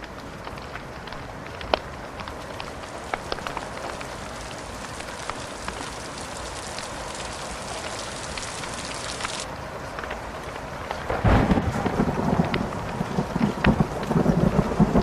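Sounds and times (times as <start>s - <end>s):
crackling fire: 0.0s - 15.0s
steady rain hiss: 0.0s - 15.0s.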